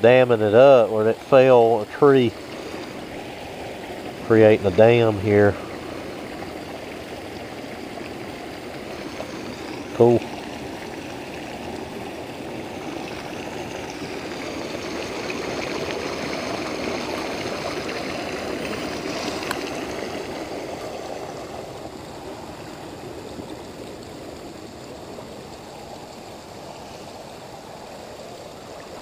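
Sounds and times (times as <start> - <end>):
creek running over stones: 0.0 - 29.0.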